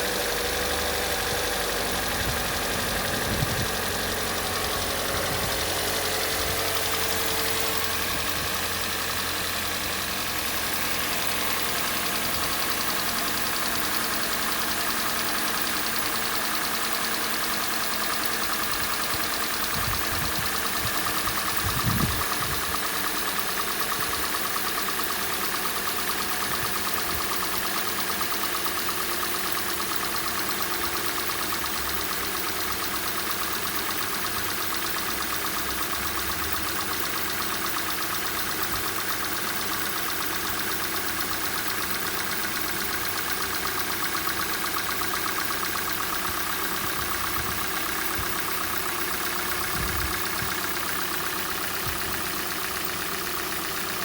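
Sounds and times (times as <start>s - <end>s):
car engine idling with rapid knocking: 0.0s - 54.0s.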